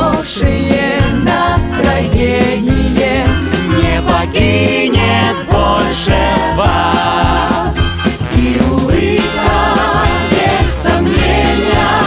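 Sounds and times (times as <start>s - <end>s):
instrumental backing with beat: 0.0s - 12.0s
voices singing together: 0.0s - 12.0s.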